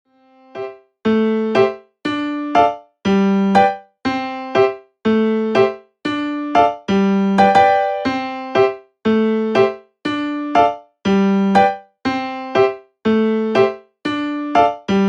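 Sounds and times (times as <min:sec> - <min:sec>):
electric piano chords: 0:00.5 - 0:15.0.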